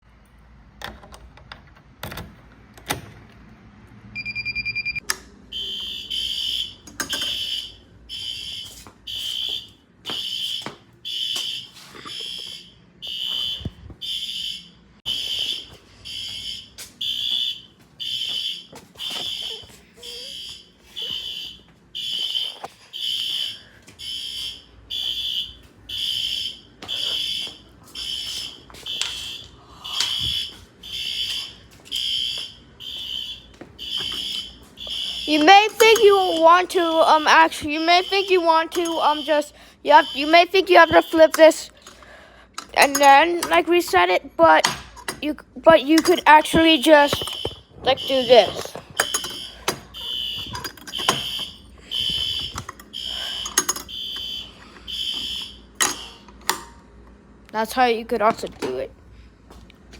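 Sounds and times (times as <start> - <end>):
fire alarm beeping: 4.2 - 56.6.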